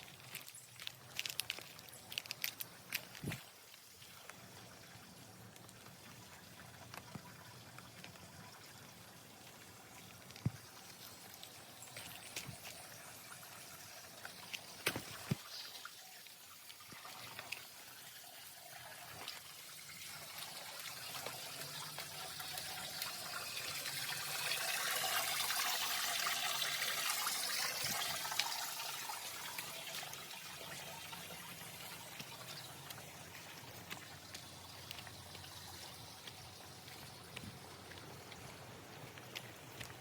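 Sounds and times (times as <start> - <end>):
spring water pouring and trickling: 0.0 - 40.0.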